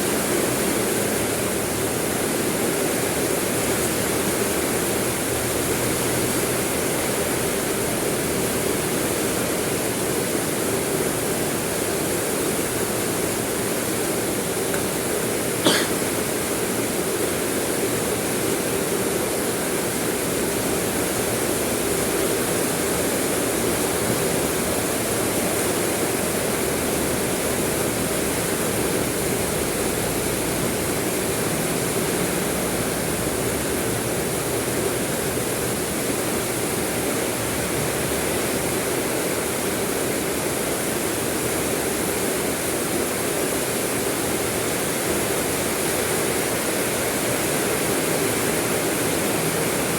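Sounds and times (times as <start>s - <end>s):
steady rain hiss: 0.0s - 49.9s.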